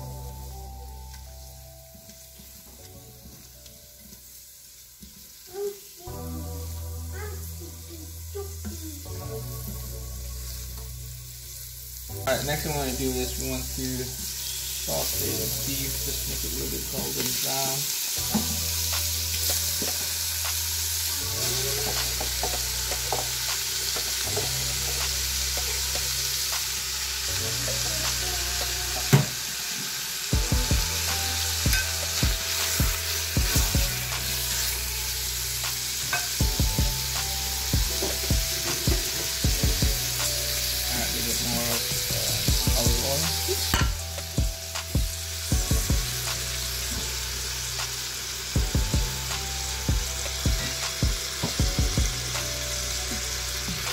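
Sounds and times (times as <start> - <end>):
beef sizzling in oil: 0.0 - 53.9.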